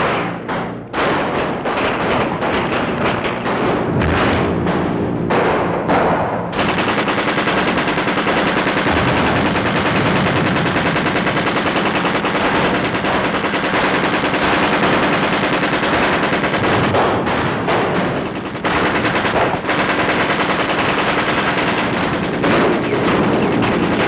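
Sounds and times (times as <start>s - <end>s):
machine-gun fire: 0.0s - 24.0s.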